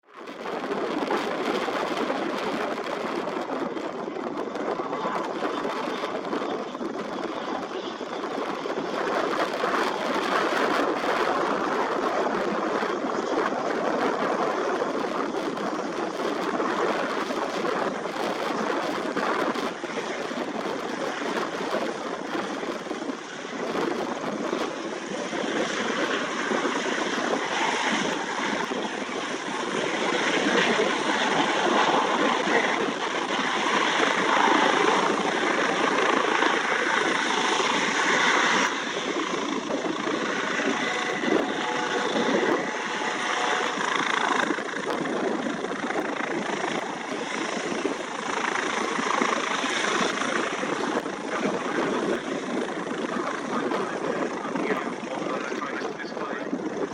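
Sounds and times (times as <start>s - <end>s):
helicopter turbines and rotors: 0.0s - 56.9s.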